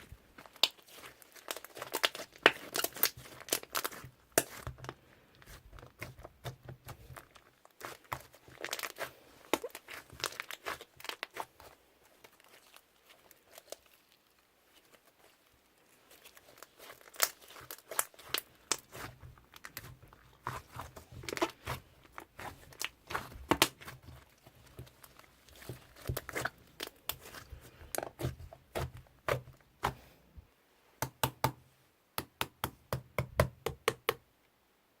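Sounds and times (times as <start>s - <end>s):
slime crackling and popping: 0.0s - 30.0s.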